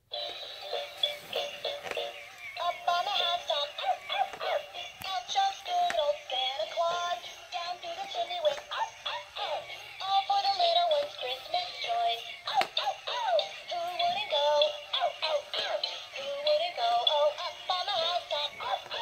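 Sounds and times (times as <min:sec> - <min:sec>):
toy singing through small speaker: 0:00.1 - 0:19.0.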